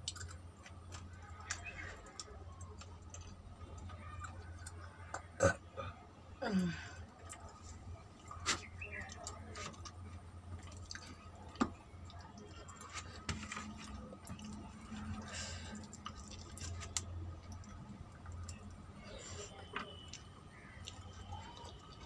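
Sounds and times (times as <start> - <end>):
chewing and mouth sounds: 0.0 - 5.6, 6.7 - 22.0.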